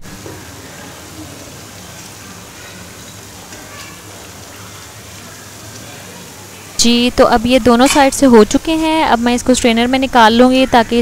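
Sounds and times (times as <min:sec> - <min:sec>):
patties sizzling in hot oil: 0:00.0 - 0:11.0.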